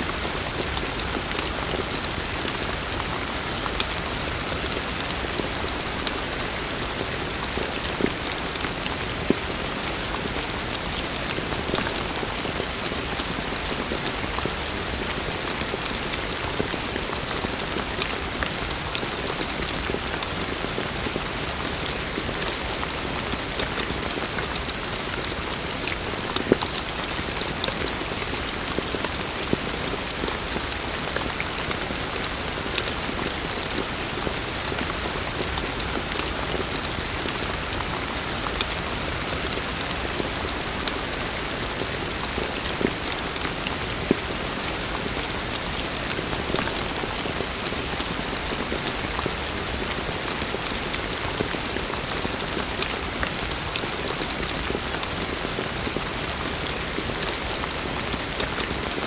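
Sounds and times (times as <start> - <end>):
heavy rain falling: 0.0 - 59.0
raindrops striking close by: 0.0 - 59.0.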